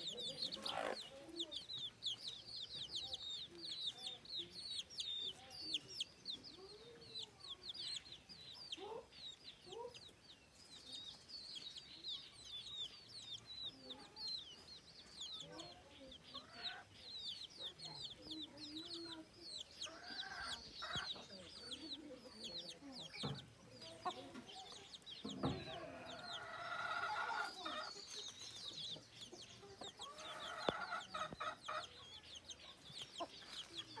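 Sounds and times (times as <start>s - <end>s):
hen clucking: 0.0s - 10.2s, 12.6s - 34.0s
chicks peeping: 0.0s - 34.0s.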